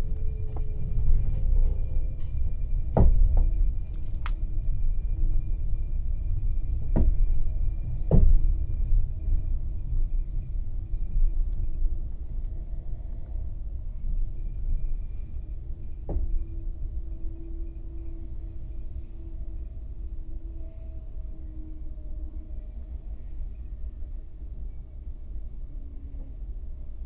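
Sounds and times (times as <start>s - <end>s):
train car rumbling on track: 0.0s - 27.0s.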